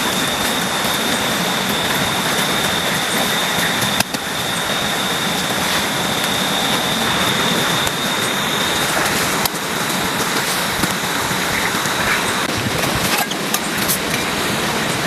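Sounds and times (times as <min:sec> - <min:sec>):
thin steady high tone: 0:00.0 - 0:12.5
heavy rain falling: 0:00.0 - 0:15.0.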